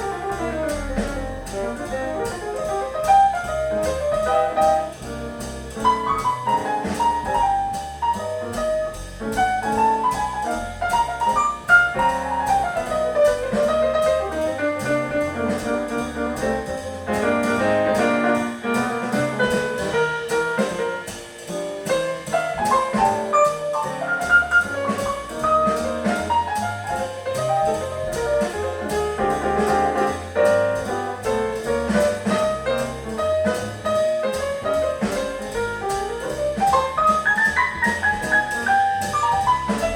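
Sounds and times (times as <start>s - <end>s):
jazz record with piano bass drums: 0.0s - 39.9s.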